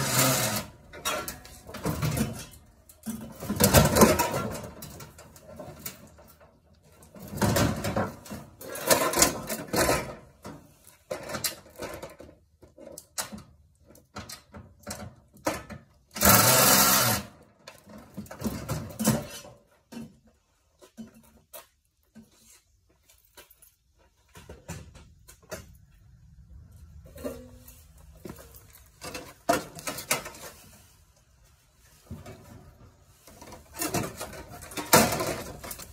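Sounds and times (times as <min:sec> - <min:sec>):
tools and metal parts clattering: 0:00.0 - 0:26.1, 0:26.7 - 0:30.9, 0:32.0 - 0:35.9.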